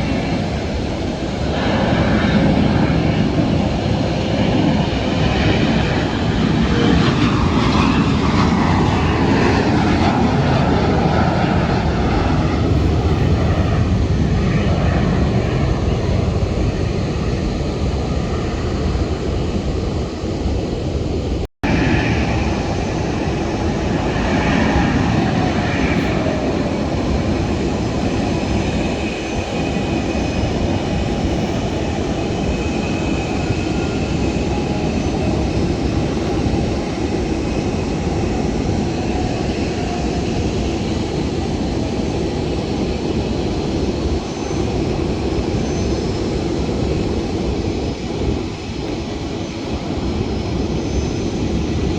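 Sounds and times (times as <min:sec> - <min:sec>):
falling engine whine: 0:00.0 - 0:51.9
jet engines roaring: 0:00.0 - 0:51.9.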